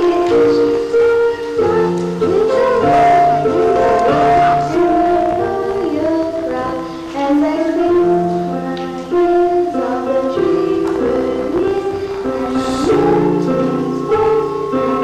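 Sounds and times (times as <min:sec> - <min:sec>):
stage musical song: 0:00.0 - 0:15.0.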